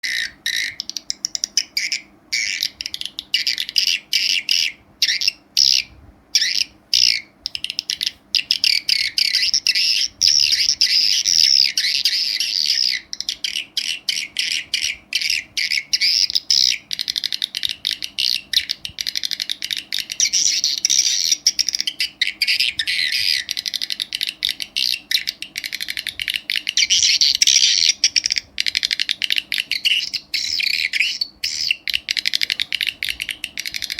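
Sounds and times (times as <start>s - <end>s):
rapid high bird chirps: 0.0s - 33.9s.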